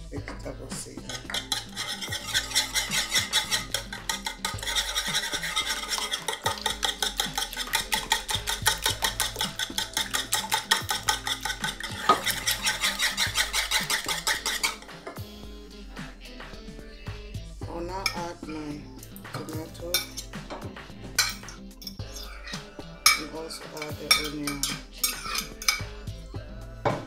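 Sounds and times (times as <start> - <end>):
wire whisk beating eggs in a bowl: 0.2 - 14.9, 17.9 - 20.4, 21.2 - 25.9.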